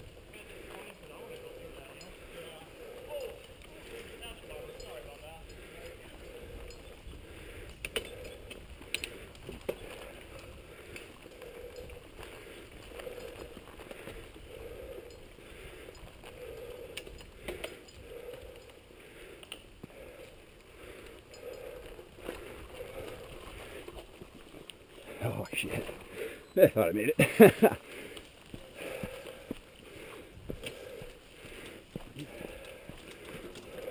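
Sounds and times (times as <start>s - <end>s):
bike drivetrain rattle: 0.0s - 33.9s
bike tyre noise on dirt: 0.0s - 33.9s.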